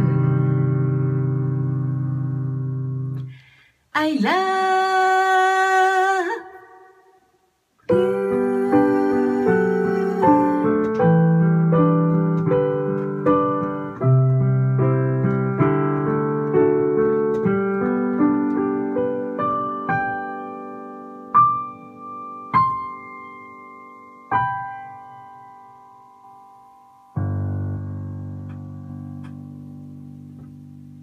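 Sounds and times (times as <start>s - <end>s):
solo piano playing: 0.0s - 3.4s, 7.9s - 31.0s.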